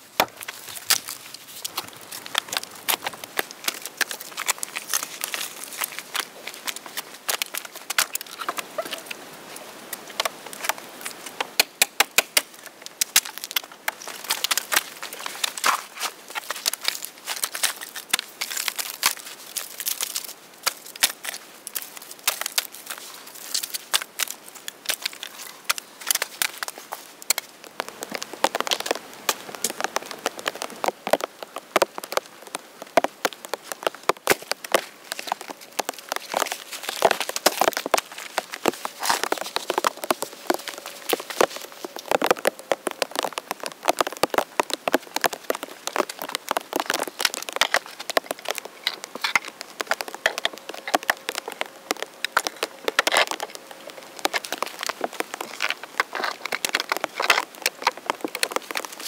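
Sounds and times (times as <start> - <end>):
twigs crackling and snapping: 0.0 - 59.0
loud wood cracks: 9.9 - 59.0.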